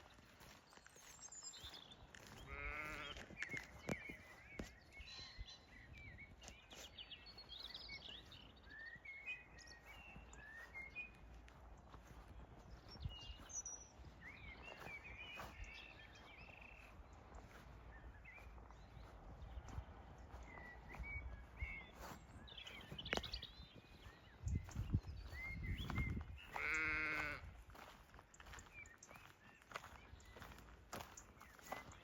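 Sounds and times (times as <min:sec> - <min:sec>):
soft footsteps: 0:00.0 - 0:08.6, 0:09.7 - 0:32.0
faint birdsong chirps: 0:00.0 - 0:32.0.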